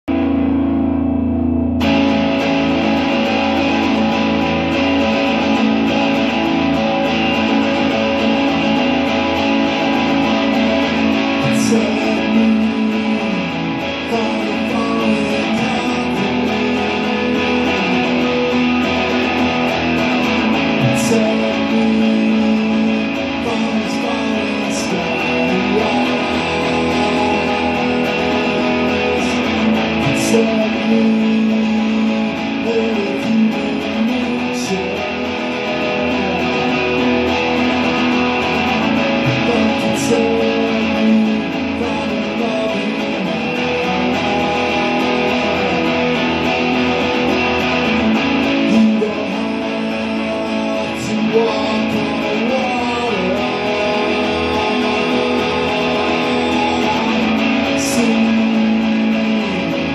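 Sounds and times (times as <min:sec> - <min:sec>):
electric guitar chords ringing: 0:00.0 - 0:59.9.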